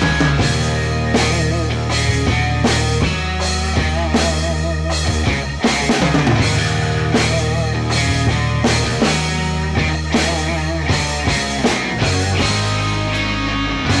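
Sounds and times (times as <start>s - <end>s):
drum kit beat: 0.0s - 14.0s
sustained instrumental tones: 0.0s - 14.0s.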